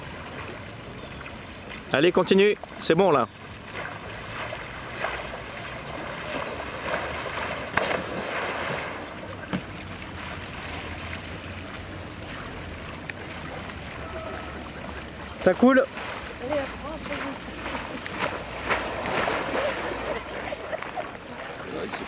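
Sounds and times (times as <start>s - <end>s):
sharp water splashes: 0.0s - 22.0s
water rushing: 0.0s - 22.0s.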